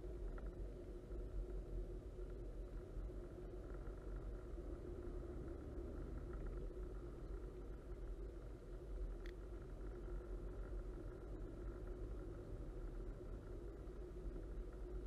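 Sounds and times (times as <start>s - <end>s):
car road and tyre noise: 0.0s - 15.0s
faint steady hum: 0.0s - 15.0s.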